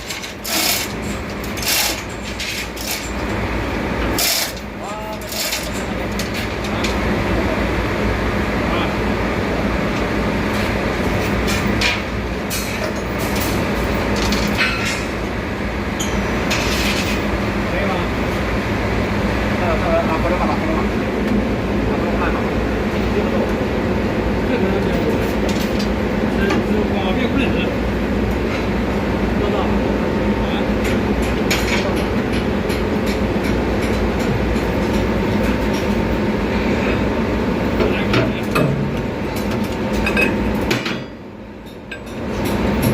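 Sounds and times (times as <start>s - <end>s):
engine room machinery humming: 0.0s - 42.9s.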